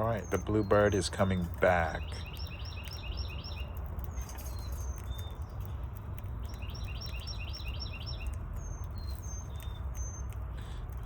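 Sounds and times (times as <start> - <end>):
budgerigars chirping: 0.0 - 5.8, 6.4 - 10.7
low background rumble: 0.0 - 11.0.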